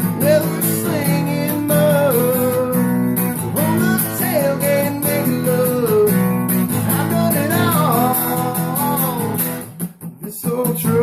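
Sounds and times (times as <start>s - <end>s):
acoustic guitar strumming: 0.0s - 11.0s
person singing: 0.0s - 11.0s.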